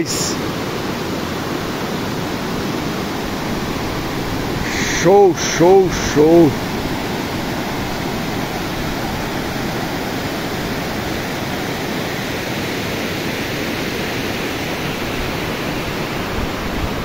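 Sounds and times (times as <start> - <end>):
water pouring over dam spillway: 0.6 - 17.0.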